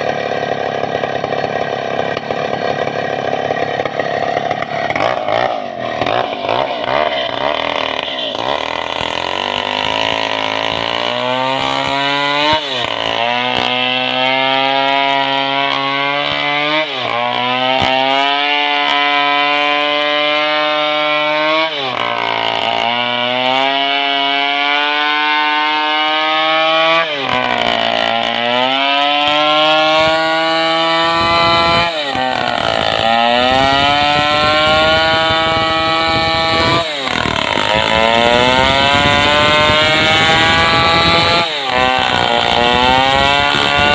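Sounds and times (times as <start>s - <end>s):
chainsaw ripping a log: 0.0s - 43.9s.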